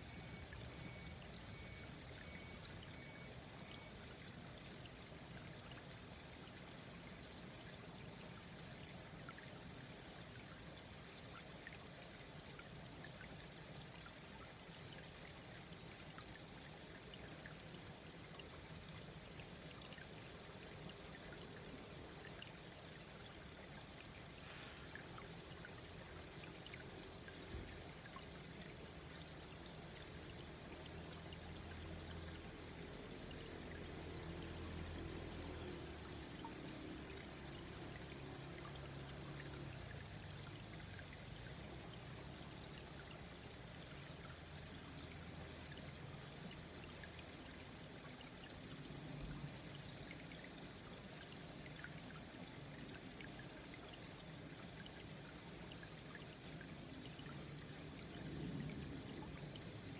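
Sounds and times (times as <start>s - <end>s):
brook babbling and trickling: 0.0s - 59.9s.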